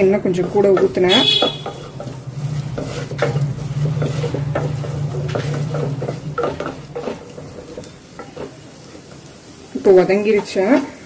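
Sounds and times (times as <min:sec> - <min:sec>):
spatula scraping a pot: 0:00.0 - 0:09.3
meat frying: 0:00.0 - 0:11.0.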